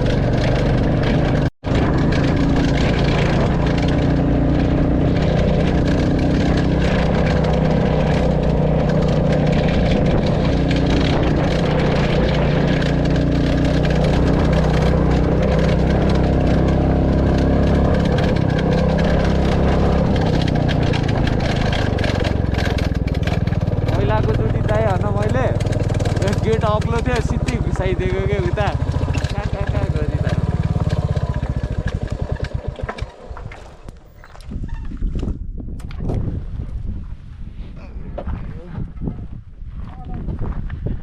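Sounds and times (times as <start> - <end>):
motorcycle engine running: 0.0 - 35.2.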